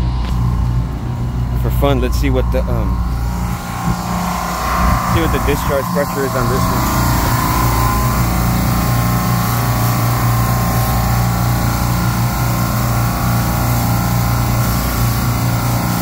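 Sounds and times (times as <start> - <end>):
refrigeration compressors humming: 0.0 - 16.0.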